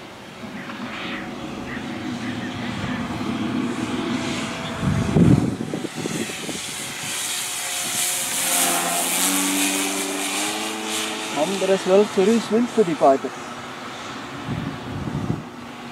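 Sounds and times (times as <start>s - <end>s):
model plane propeller whirring: 0.0s - 15.9s.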